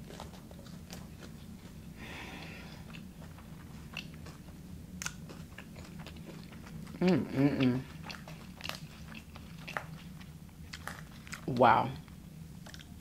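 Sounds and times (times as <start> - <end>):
wet chewing mouth sounds: 0.0 - 13.0.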